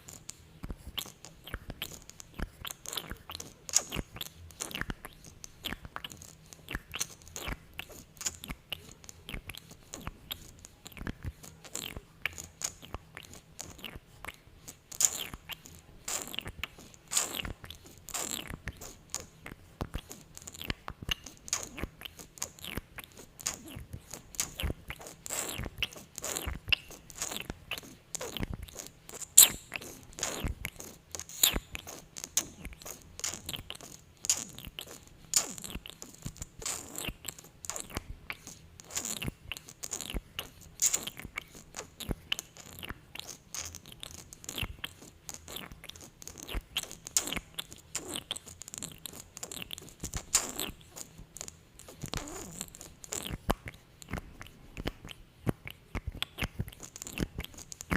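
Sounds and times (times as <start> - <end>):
wet lip smacks and clicks: 0.0 - 57.9.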